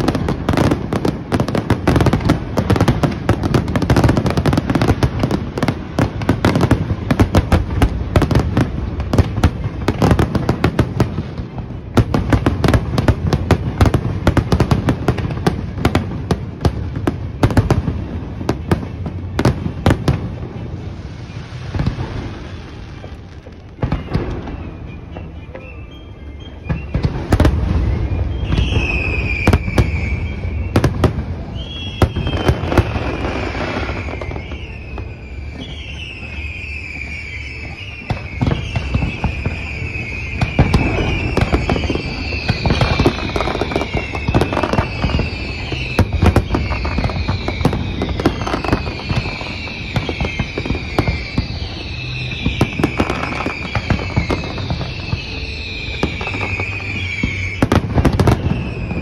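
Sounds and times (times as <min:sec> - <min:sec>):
fireworks booming and crackling: 0:00.0 - 0:59.0.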